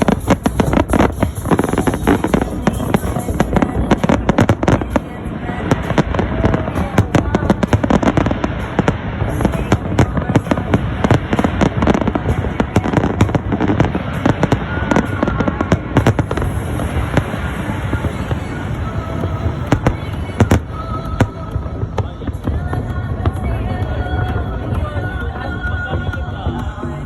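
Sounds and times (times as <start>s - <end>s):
fireworks bangs and crackles: 0.0s - 26.6s
music: 0.0s - 27.0s
voices: 0.0s - 27.0s.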